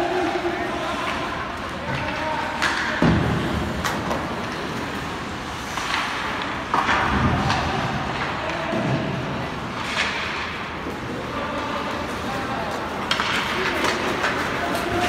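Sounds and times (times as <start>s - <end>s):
hockey sticks and puck clacking: 0.0s - 15.0s.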